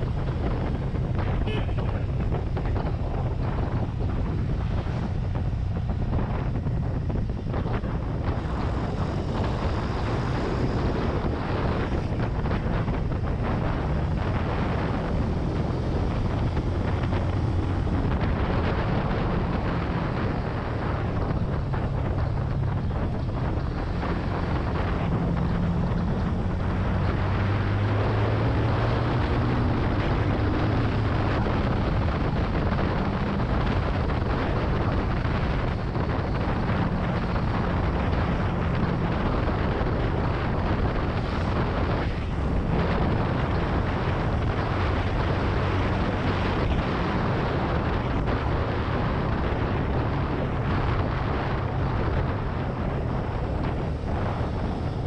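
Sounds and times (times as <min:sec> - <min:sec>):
wind noise on microphone: 0:00.0 - 0:55.0.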